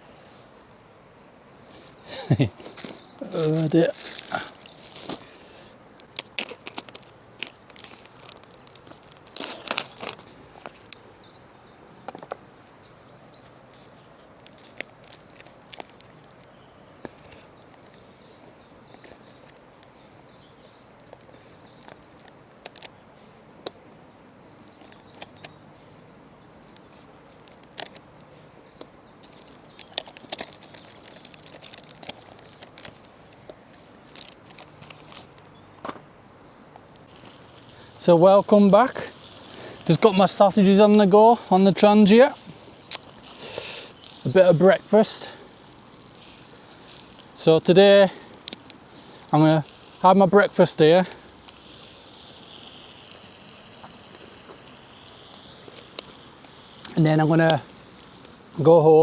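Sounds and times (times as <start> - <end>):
birds chirping faintly: 0.0 - 59.0
rustling and crinkling: 1.6 - 23.1, 24.5 - 25.6, 26.6 - 59.0.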